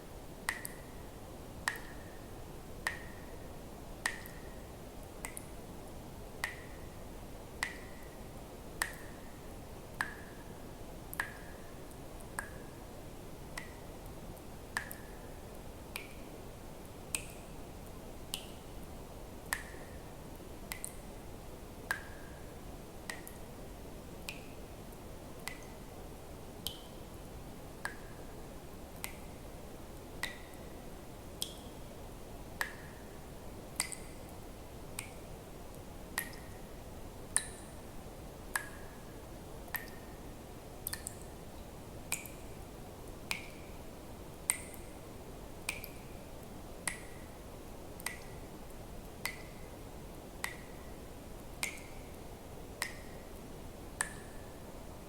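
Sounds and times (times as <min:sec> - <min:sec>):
low hiss: 0:00.0 - 0:55.0.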